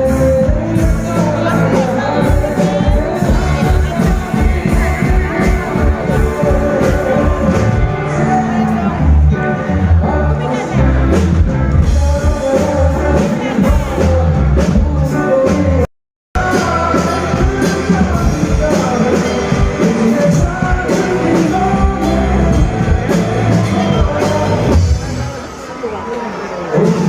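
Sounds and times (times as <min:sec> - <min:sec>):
live stage music with singing: 0:00.0 - 0:27.0.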